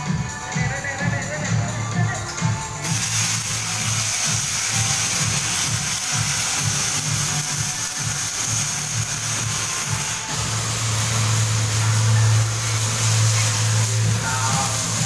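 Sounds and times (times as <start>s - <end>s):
workshop hiss: 0.0s - 15.0s.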